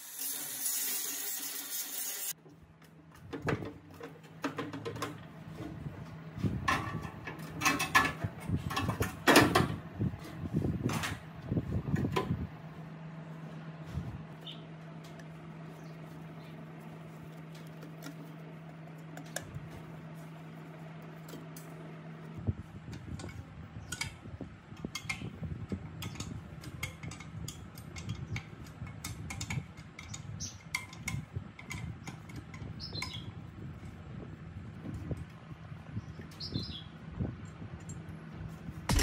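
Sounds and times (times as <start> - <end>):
steady low hum: 2.3 - 39.0.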